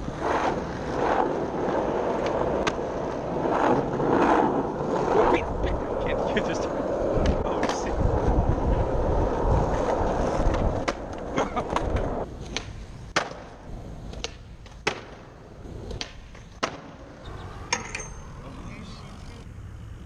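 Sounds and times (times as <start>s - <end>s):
skateboards clacking on concrete: 0.0s - 18.4s
skateboard wheels rolling on asphalt: 0.0s - 20.0s.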